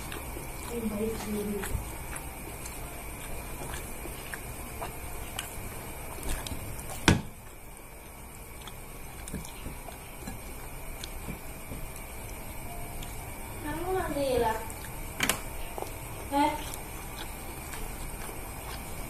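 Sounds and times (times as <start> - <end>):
person chewing: 0.0 - 13.9, 14.5 - 19.0.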